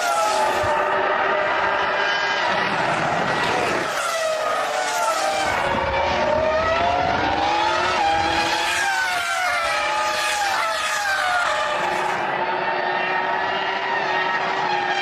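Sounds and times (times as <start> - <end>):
racing car engines at high revs: 0.0 - 15.0.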